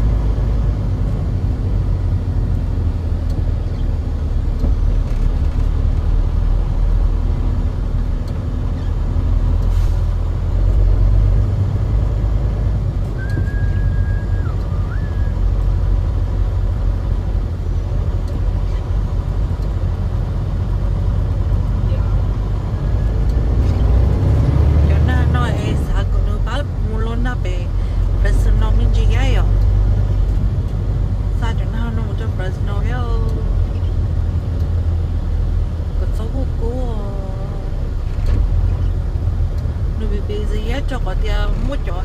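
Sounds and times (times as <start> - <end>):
truck rumbling down road: 0.0 - 42.0.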